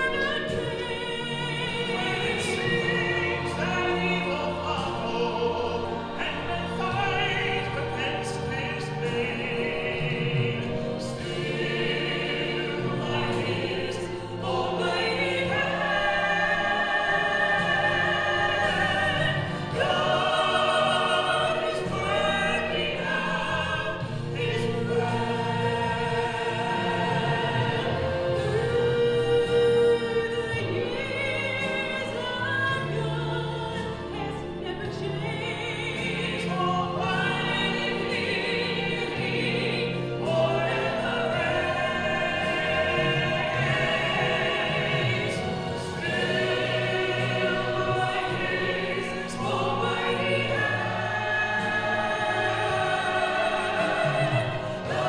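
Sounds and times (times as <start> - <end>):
church choir singing: 0.0 - 55.0.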